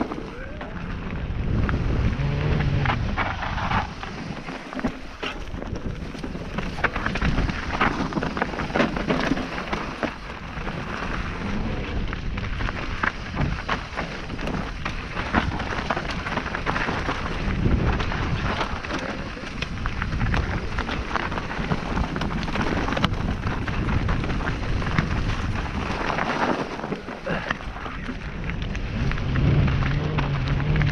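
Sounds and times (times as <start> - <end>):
knocks and rattles over rough trail: 0.0 - 30.9
wind rumble on microphone: 0.0 - 30.9.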